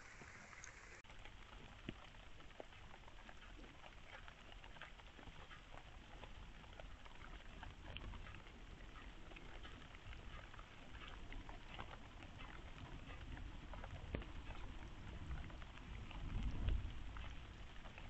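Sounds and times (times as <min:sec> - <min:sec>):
faint soft ticks and patter: 0:00.0 - 0:18.0
low steady rumble: 0:00.0 - 0:18.0.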